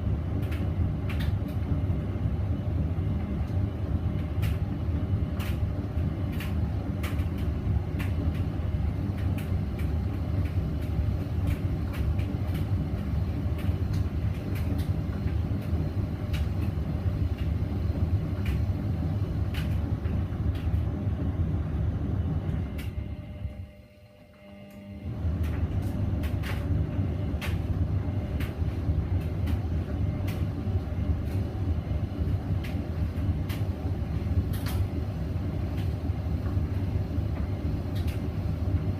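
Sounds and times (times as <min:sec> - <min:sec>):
washing machine rumbling: 0:00.0 - 0:38.9.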